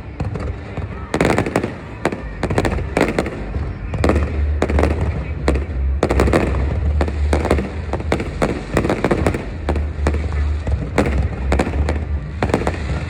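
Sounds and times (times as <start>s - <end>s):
deep rumble: 0.0s - 13.0s
fireworks bangs and crackles: 0.0s - 13.0s.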